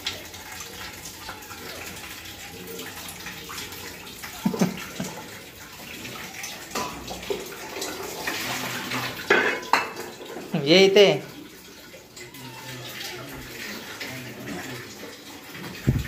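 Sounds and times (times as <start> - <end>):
tap water splashing into pan: 0.0 - 10.6, 11.2 - 16.0.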